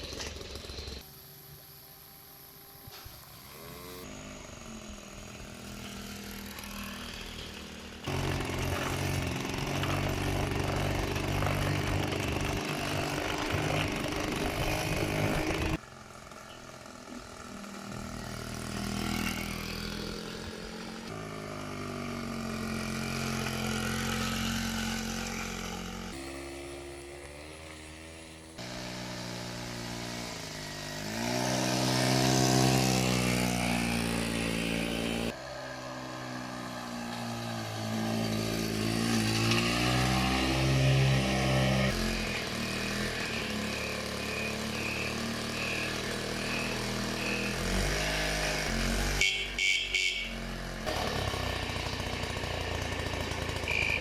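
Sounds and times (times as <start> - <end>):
moped engine revving: 0.0 - 1.1, 3.3 - 54.0.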